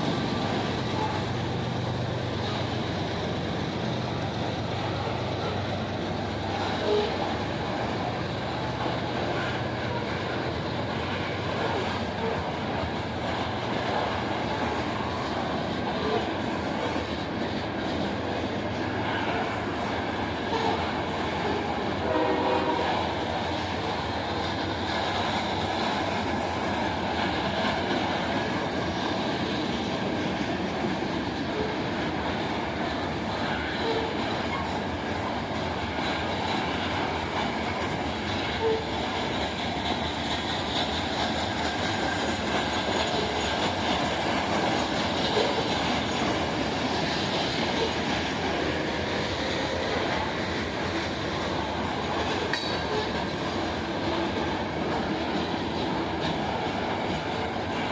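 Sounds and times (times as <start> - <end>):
train rolling on rails: 0.0 - 57.9.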